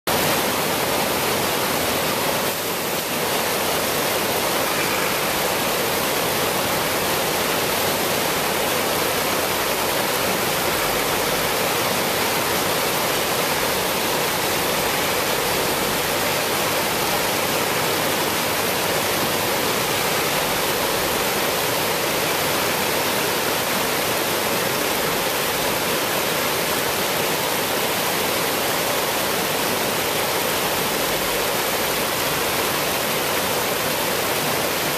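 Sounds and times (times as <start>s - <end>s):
river water rushing over rocks: 0.1s - 34.9s.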